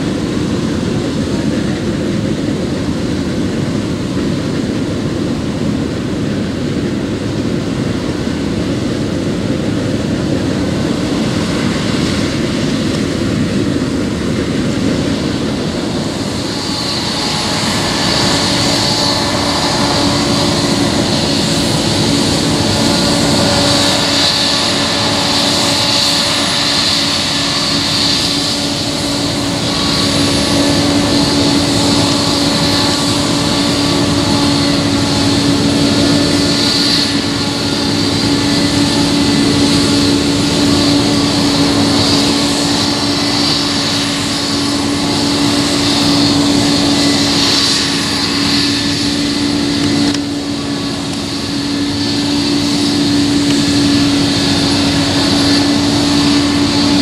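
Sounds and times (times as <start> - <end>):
combine harvester droning: 0.0 - 57.0.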